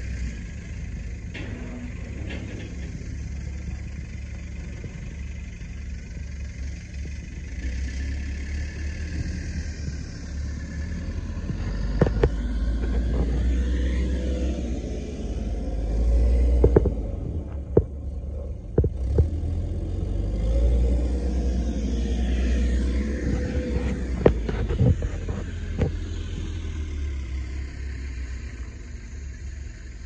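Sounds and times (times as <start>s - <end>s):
pickup engine idling: 0.0s - 7.9s, 8.9s - 20.4s, 21.2s - 30.0s.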